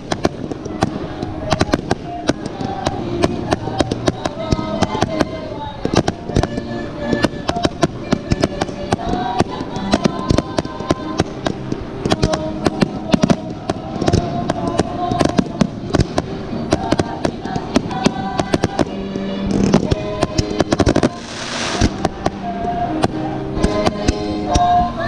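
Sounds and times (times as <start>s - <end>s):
fireworks bangs and crackles: 0.0s - 6.6s, 7.2s - 22.4s
music playing: 0.0s - 25.0s.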